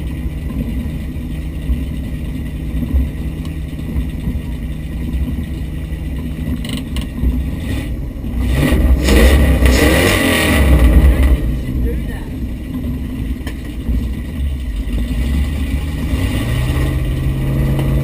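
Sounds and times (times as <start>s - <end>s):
engine running from inside cab: 0.0s - 18.0s.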